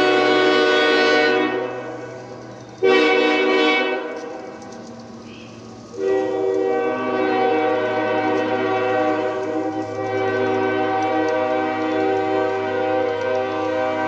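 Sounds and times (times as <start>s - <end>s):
train horn chord: 0.0s - 4.5s, 5.3s - 14.0s.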